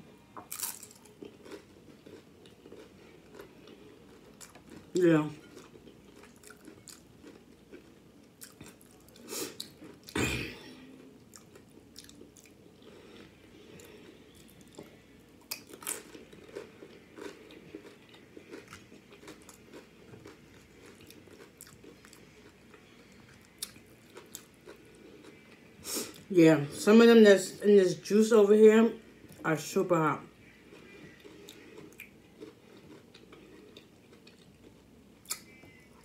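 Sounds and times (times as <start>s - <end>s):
chewing and crunching chips: 0.4s - 26.3s, 30.2s - 36.0s.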